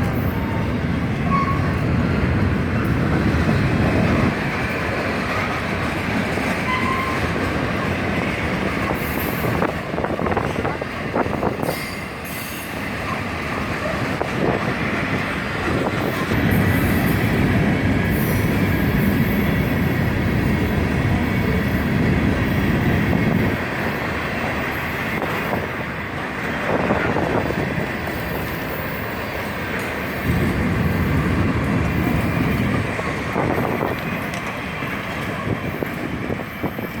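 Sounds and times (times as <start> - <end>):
freight train cars rumbling past: 0.0 - 37.0.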